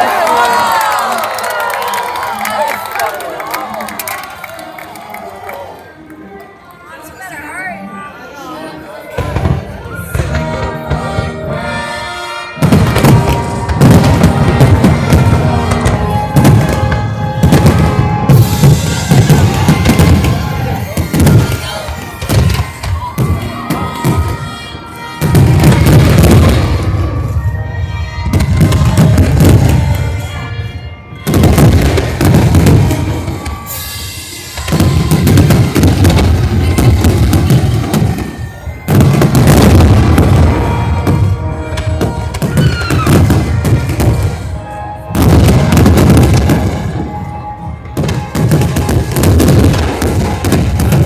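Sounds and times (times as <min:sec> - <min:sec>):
fireworks booming and crackling: 0:09.1 - 0:51.0
loud music: 0:10.1 - 0:51.0.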